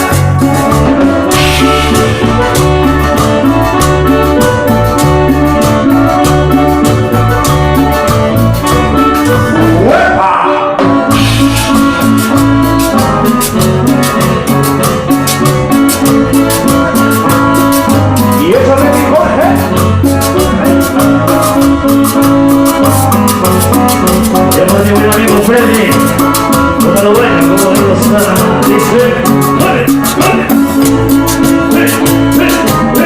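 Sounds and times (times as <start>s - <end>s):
cumbia band playing: 0.0s - 33.0s.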